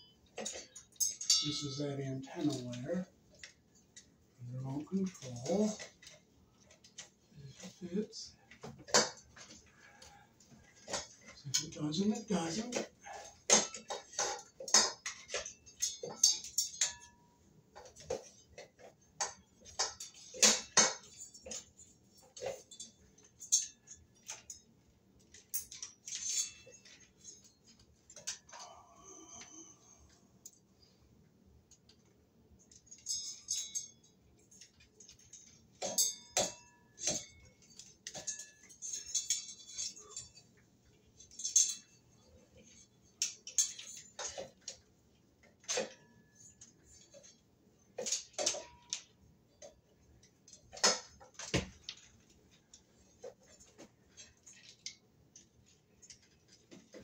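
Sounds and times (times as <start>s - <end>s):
metal hardware clicking and rattling: 0.1s - 28.7s, 31.7s - 57.0s.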